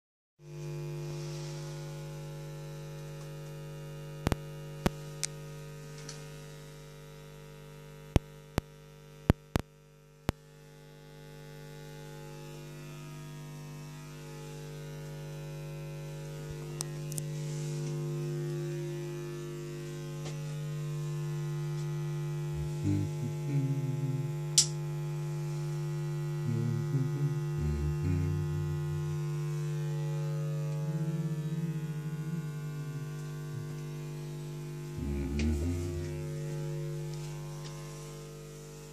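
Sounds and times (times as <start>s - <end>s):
electrical hum: 0.5s - 38.9s.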